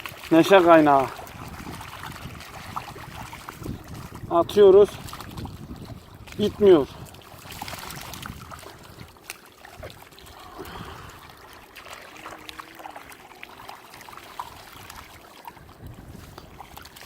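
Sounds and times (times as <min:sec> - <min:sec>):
fish splashing into water: 0:00.0 - 0:17.0
water trickling: 0:00.0 - 0:17.0.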